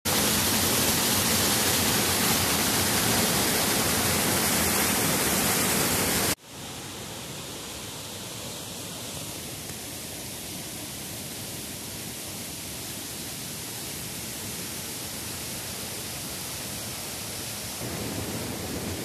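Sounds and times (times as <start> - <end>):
waterfall rushing into pool: 0.1 - 19.0.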